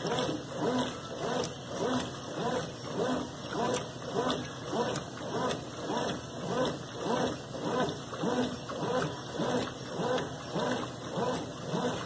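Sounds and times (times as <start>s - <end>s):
washing machine agitating: 0.0s - 12.0s
water sloshing: 0.0s - 12.0s.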